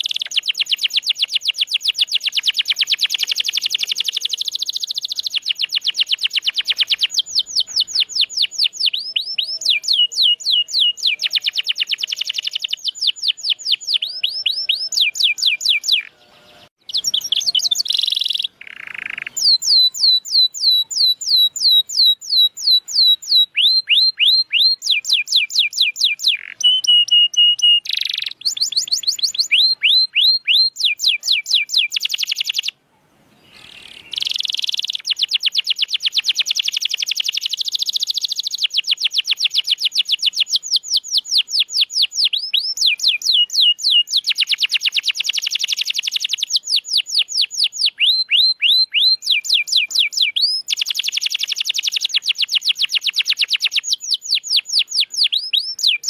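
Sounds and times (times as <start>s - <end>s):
canary singing rapid trills: 0.0s - 32.8s, 33.4s - 56.0s.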